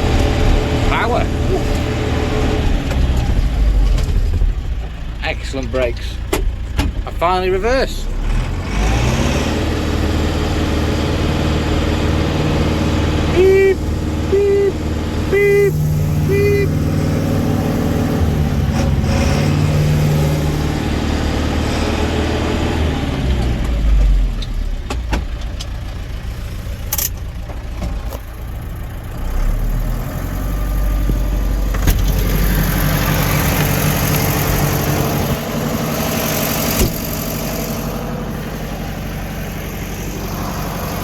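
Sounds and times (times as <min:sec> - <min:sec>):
tractor diesel engine revving: 0:00.0 - 0:27.2, 0:28.2 - 0:41.0.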